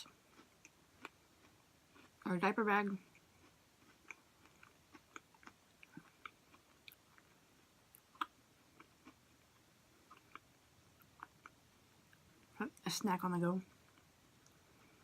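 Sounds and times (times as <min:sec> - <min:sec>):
quiet chewing: 0:00.0 - 0:12.6, 0:13.7 - 0:15.0.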